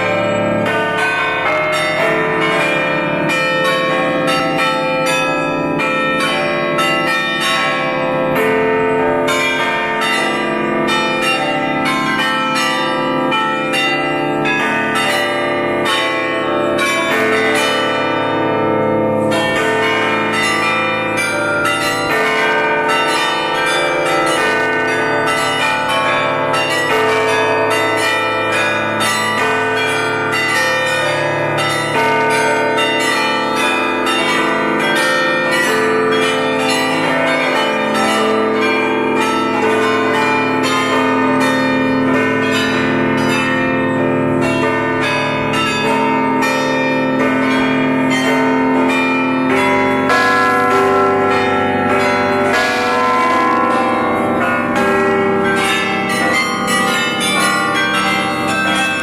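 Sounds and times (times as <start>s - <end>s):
carillon bells playing a tune: 0.0s - 59.0s.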